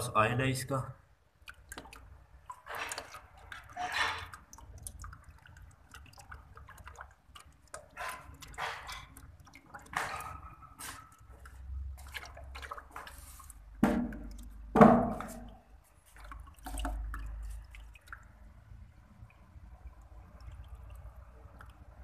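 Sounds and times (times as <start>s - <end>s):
oil dripping and splashing: 1.1s - 22.0s.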